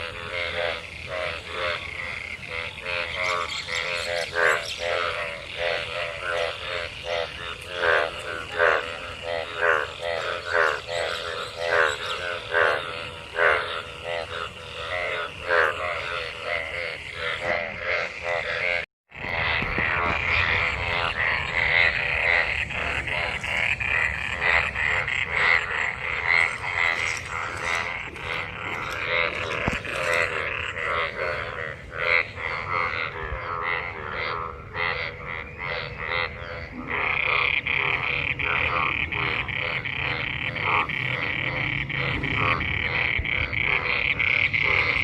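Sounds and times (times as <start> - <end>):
frogs croaking: 0.0 - 45.0.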